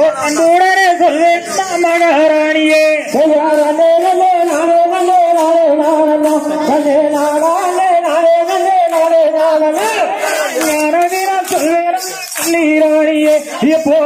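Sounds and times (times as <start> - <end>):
light sharp percussion beat: 0.0 - 14.0
person singing: 0.0 - 14.0.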